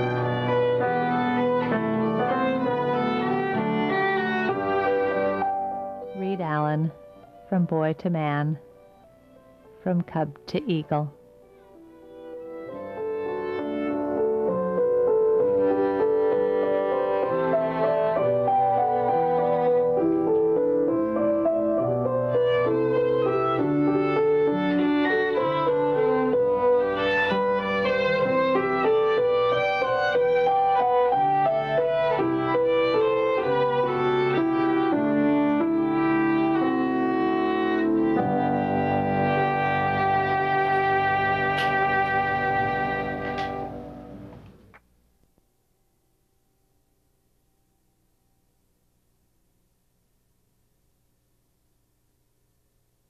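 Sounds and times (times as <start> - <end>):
instrumental background music: 0.0 - 44.5.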